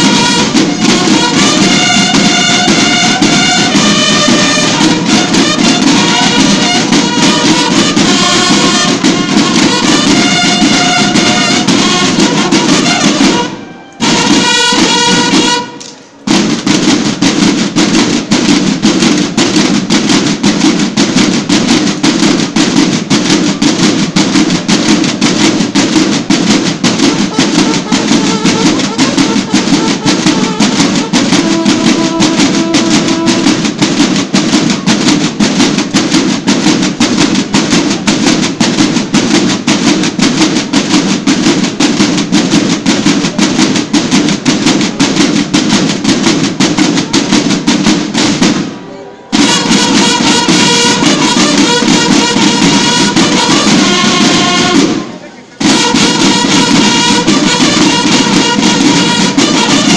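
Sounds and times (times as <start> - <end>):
bugles sounding held notes: 0.0 - 59.9
field drums beating fast rhythm: 0.0 - 59.9.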